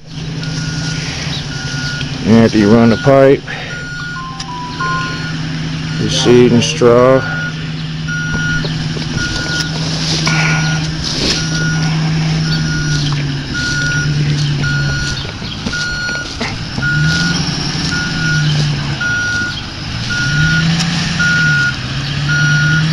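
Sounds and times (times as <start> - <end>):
backup alarm beeping: 0.4 - 22.9.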